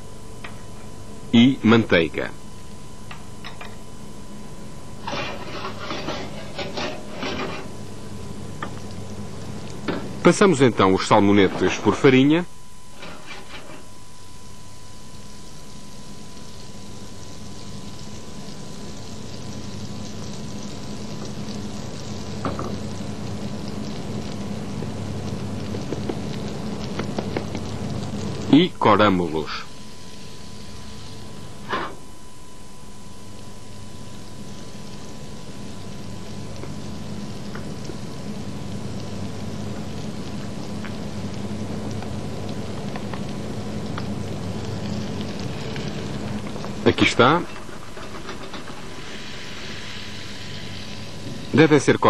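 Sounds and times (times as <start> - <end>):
oil and butter sizzling in a pan: 0.0 - 52.0
steady low hum: 0.0 - 52.0.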